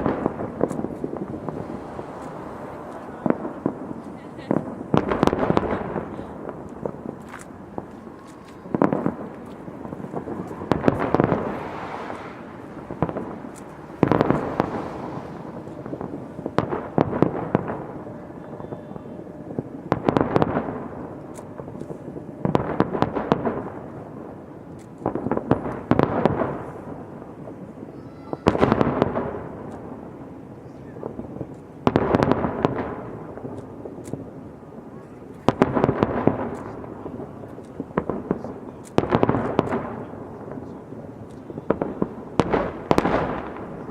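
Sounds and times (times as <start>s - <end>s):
fireworks banging and crackling: 0.0s - 43.9s.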